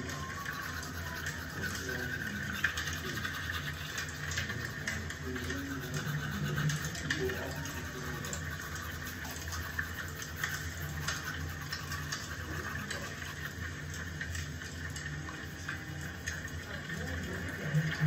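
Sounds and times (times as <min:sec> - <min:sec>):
toothbrush scrubbing teeth: 0:00.0 - 0:18.0.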